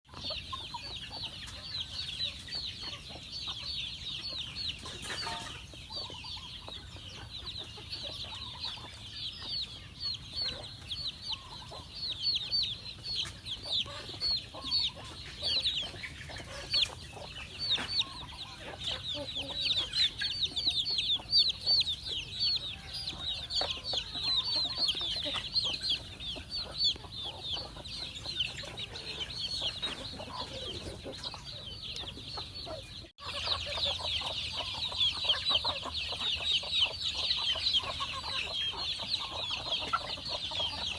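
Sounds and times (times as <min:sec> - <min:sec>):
chickens chirping: 0:00.1 - 0:40.9.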